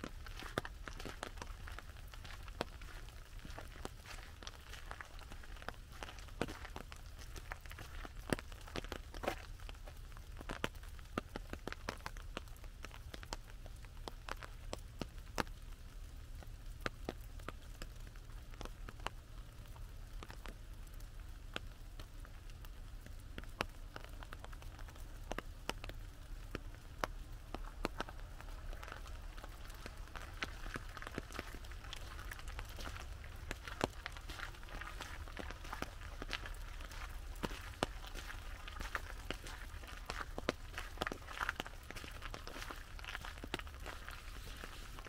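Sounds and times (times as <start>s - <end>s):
low steady rumble: 0.0s - 45.0s
raindrops tapping on umbrella: 0.0s - 45.0s.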